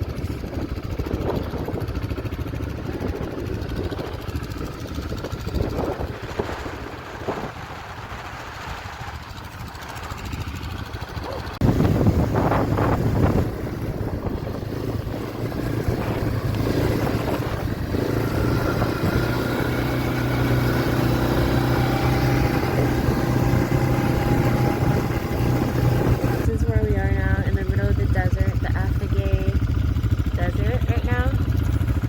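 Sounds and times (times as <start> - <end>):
quad bike engine droning: 0.0 - 32.0.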